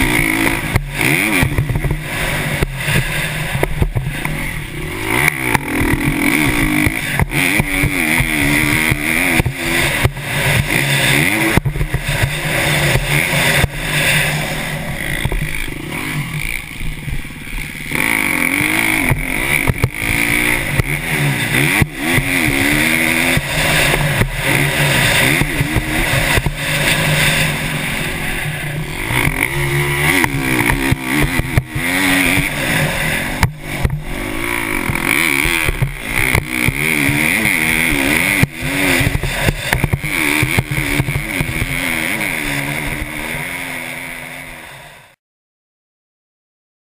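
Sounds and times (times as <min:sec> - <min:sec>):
motocross engine revving: 0:00.0 - 0:45.2.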